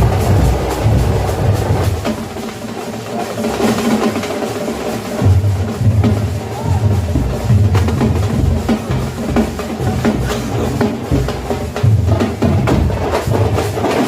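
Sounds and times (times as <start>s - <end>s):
deep booming drum beats: 0.0s - 14.0s
frame drums beaten with sticks: 0.0s - 14.0s.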